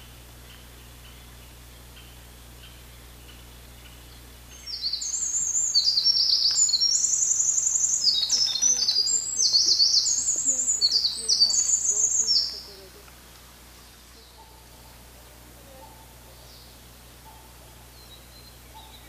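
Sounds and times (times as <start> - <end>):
wren singing trills: 0.0 - 13.0, 15.6 - 19.0.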